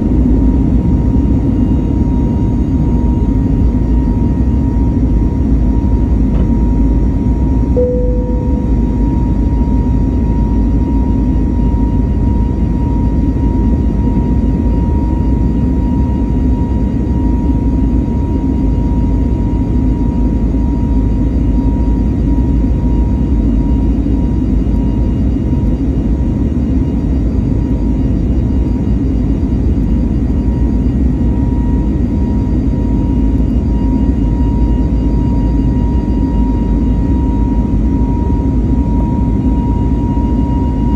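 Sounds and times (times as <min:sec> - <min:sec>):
jet engines at take-off thrust: 0:00.0 - 0:40.9.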